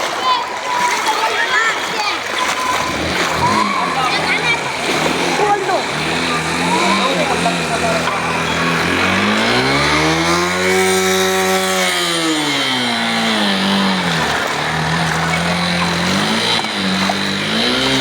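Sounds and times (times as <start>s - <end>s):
constant rushing noise: 0.0s - 18.0s
engine revving: 2.7s - 18.0s.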